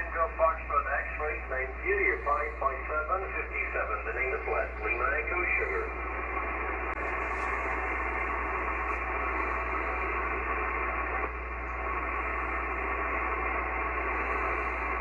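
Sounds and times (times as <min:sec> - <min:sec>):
low steady hum: 0:00.0 - 0:15.0
radio static hiss: 0:00.0 - 0:15.0.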